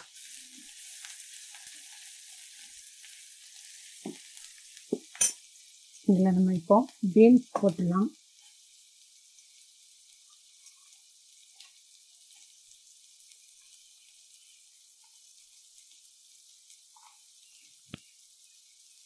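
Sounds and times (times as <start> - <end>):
onion frying in a pan: 0.0 - 19.0.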